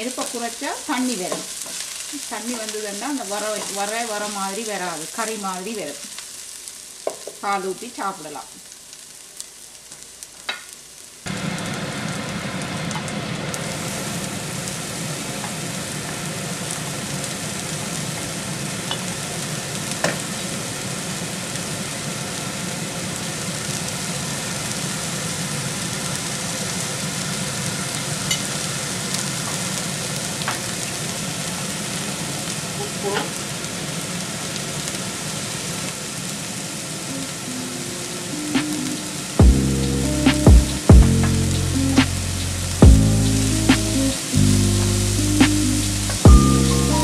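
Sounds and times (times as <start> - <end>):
onions sizzling in oil: 0.0 - 47.0.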